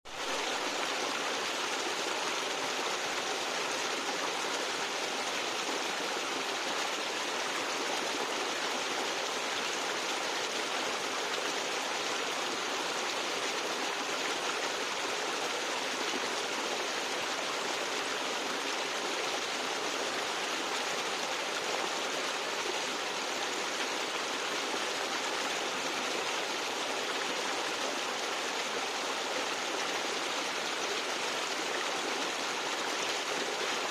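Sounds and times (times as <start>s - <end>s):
stream gurgling over rocks: 0.1s - 33.9s.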